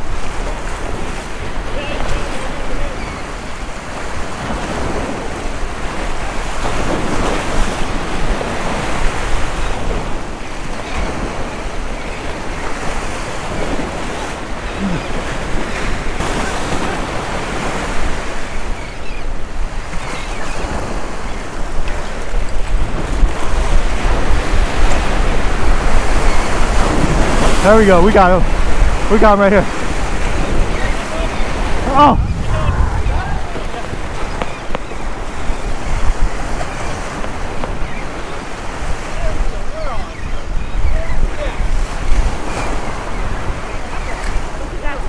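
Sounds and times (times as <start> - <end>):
waves breaking over rocks: 0.0 - 45.0
wind buffeting microphone: 0.0 - 45.0.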